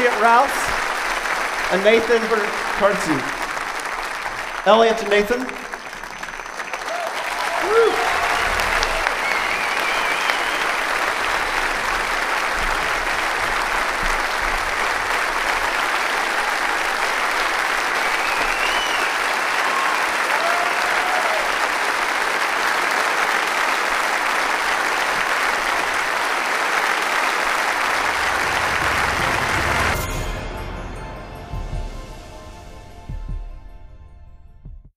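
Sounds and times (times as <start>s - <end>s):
audience applauding: 0.0s - 30.3s.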